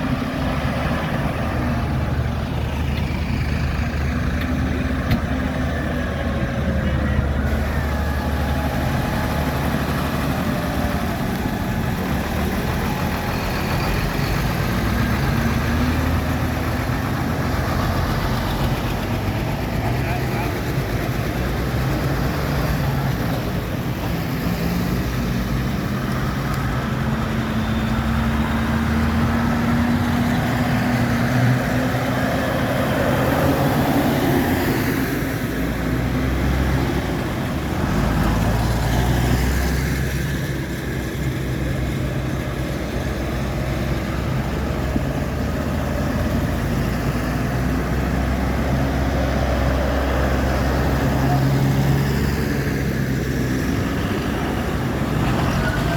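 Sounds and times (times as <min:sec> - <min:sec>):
tractor engine: 0:00.0 - 0:55.9
vehicle engines passing: 0:00.0 - 0:55.9.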